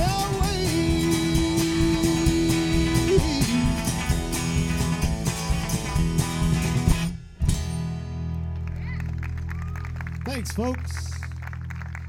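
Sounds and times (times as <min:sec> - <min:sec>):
country band playing: 0:00.0 - 0:12.0.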